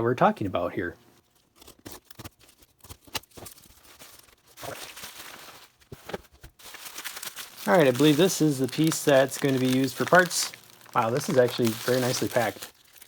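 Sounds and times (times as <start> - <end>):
packaging crinkling and rustling: 1.2 - 13.0.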